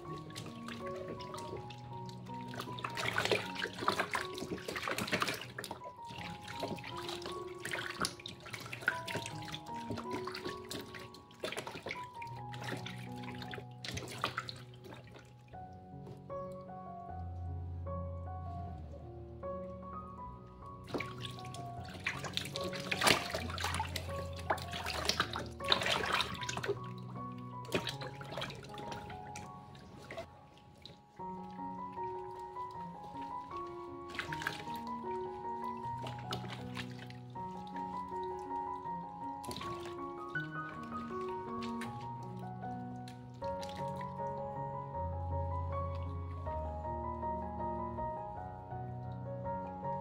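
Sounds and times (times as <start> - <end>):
water splashing in plastic tub: 0.0 - 16.3, 20.8 - 46.5
background music of held notes: 0.0 - 50.0.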